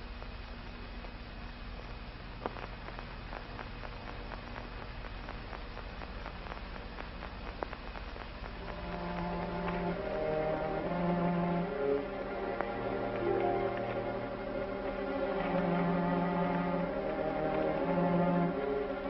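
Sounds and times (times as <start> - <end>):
film soundtrack hiss and hum: 0.0 - 19.0
music: 1.9 - 19.0.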